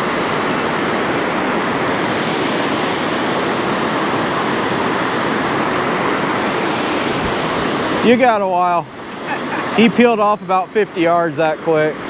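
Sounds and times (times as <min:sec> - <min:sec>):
water rushing through spillway: 0:00.0 - 0:12.0.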